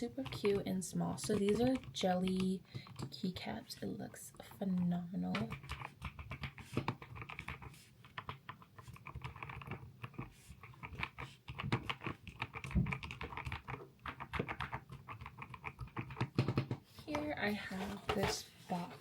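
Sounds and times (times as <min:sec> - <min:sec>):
mechanical keyboard typing: 0:00.0 - 0:17.3.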